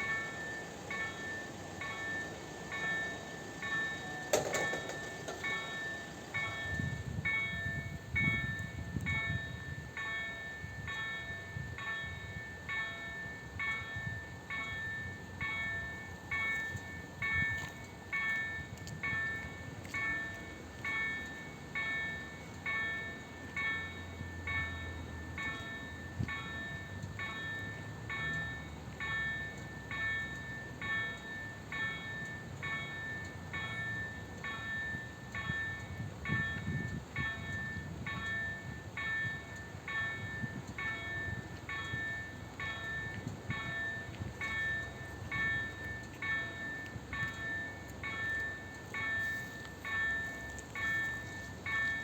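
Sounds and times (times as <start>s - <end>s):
freight train rumble: 0.0s - 52.0s
level crossing bell ringing: 0.0s - 52.0s.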